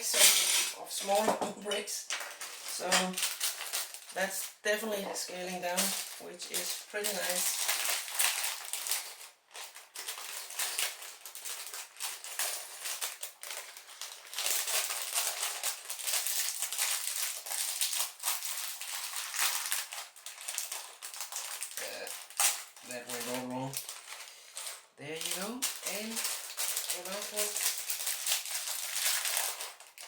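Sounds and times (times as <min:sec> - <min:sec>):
plastic bags crinkling: 0:02.1 - 0:30.0.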